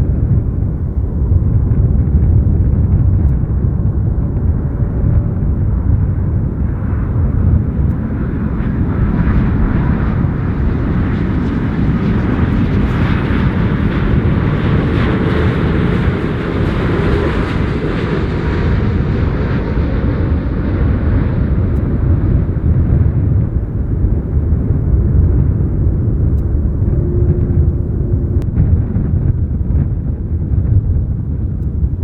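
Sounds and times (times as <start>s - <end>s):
jet airliner passing over: 0.0s - 28.6s.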